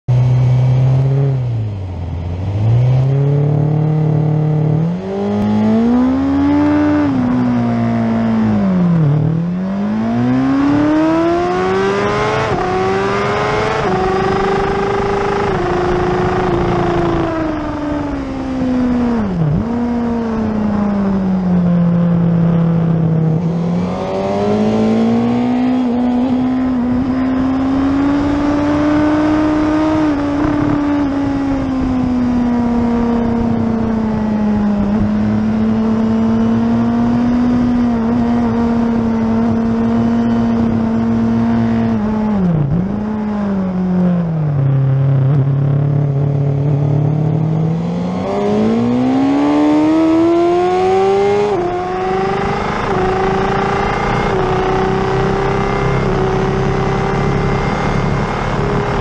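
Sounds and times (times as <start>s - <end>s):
motorcycle engine revving: 0.1s - 59.0s.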